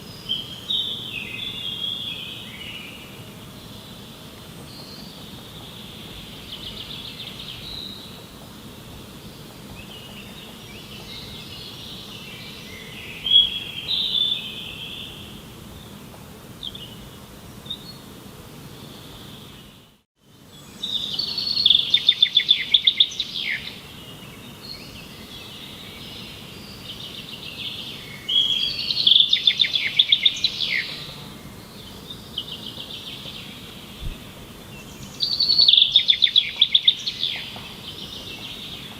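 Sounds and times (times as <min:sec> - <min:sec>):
outdoor background noise: 0:00.0 - 0:38.9
songbirds singing: 0:00.0 - 0:38.9.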